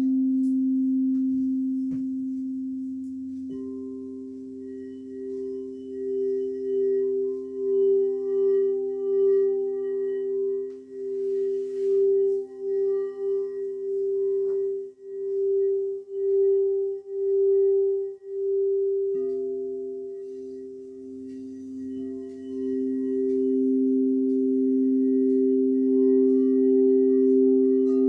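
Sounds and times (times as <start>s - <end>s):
singing bowls ringing: 0.0s - 28.0s.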